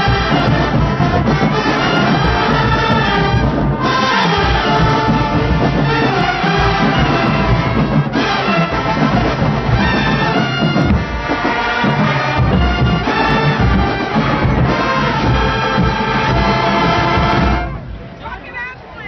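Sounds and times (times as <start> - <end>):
heavy low drum beat: 0.0 - 18.0
brass band playing: 0.0 - 18.1.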